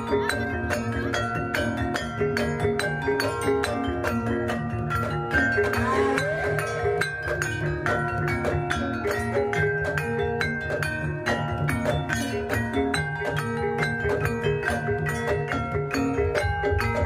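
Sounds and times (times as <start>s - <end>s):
metallophones playing melody: 0.0s - 17.0s.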